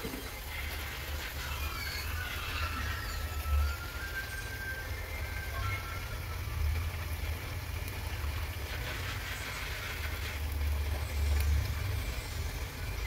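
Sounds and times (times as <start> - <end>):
chicken cooking in a pan: 0.0 - 13.0.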